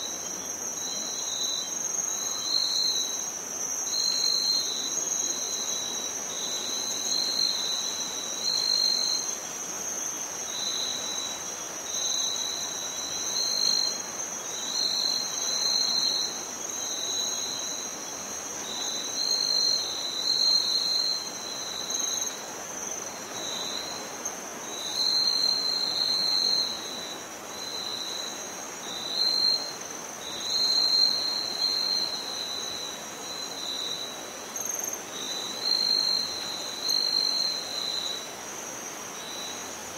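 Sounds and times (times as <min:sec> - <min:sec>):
lower intermittent cricket trill: 0:00.0 - 0:39.9
steady high cricket trill: 0:00.0 - 0:39.9.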